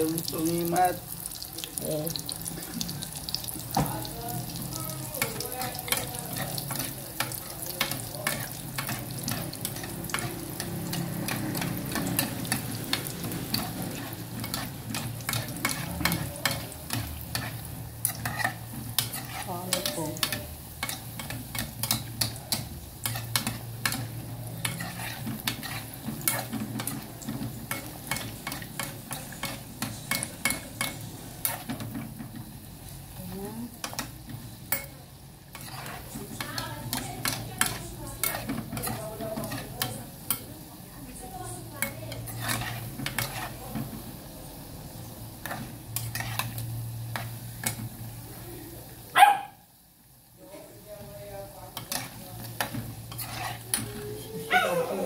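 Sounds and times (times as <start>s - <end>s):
dough sizzling in hot oil: 0.0s - 54.5s
metal spoon stirring in pot: 2.2s - 32.5s, 33.2s - 44.2s, 45.4s - 48.0s, 51.3s - 54.4s.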